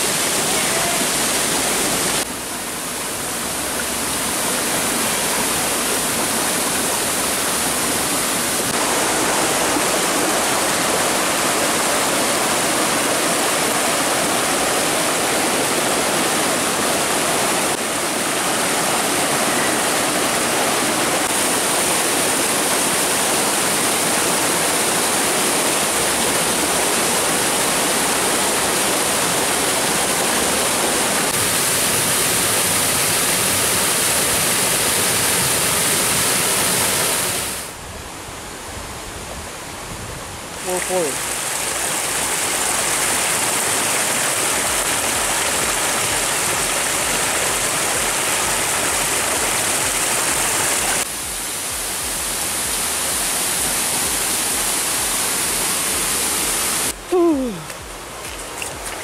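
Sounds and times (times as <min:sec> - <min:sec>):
water rushing over boulders: 0:00.0 - 0:37.8, 0:39.6 - 0:59.0.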